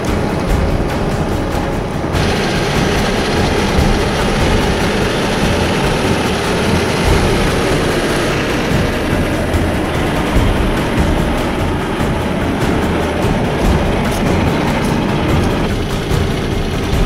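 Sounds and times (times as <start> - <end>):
truck engine running: 0.0 - 17.0
winch pulling: 0.0 - 17.0.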